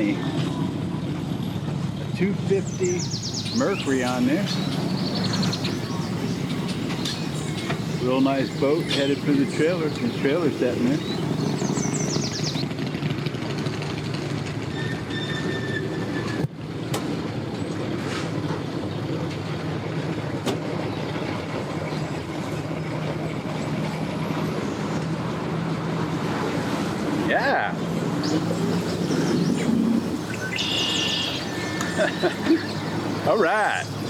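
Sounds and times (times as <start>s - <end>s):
outboard boat motors running: 0.0s - 14.9s, 16.6s - 34.0s
outdoor noise: 0.0s - 34.0s.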